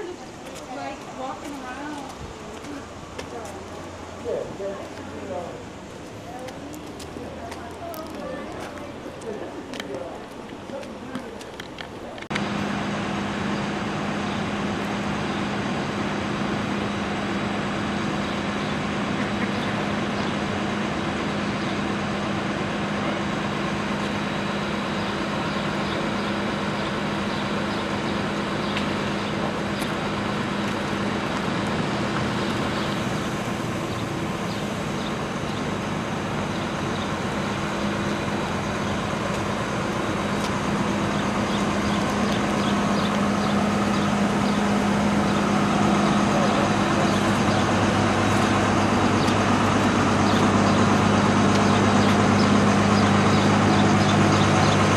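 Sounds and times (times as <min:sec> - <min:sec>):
heavy vehicle engines idling: 0:00.0 - 0:54.9
street noise: 0:00.0 - 0:54.9.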